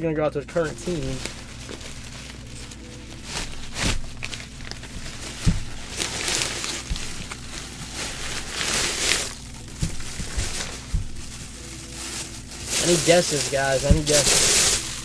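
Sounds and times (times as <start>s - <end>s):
cards and packaging rustling: 0.5s - 15.0s.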